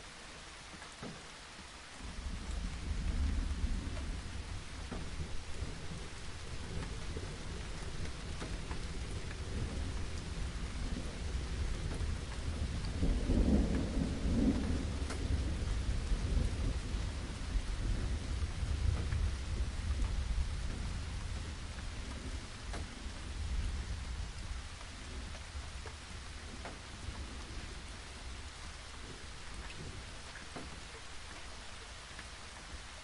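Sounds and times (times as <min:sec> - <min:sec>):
steady rain: 0:00.0 - 0:33.0
distant thunder rumbling: 0:02.0 - 0:33.0.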